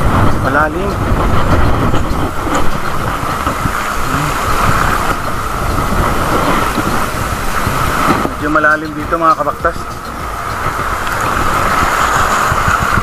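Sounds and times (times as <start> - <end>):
wind blowing on microphone: 0.0 - 13.0.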